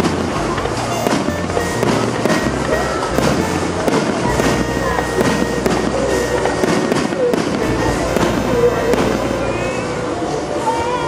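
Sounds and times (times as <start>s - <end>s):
fireworks bangs and crackles: 0.0s - 9.7s
music playing: 0.6s - 10.4s.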